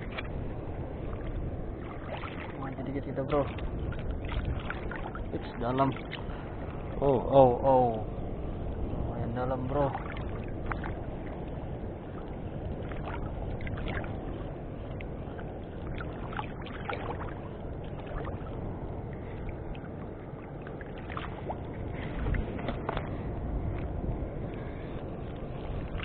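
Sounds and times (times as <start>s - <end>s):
light ticks and splashes: 0.0s - 26.0s
water lapping against boat: 0.0s - 26.0s.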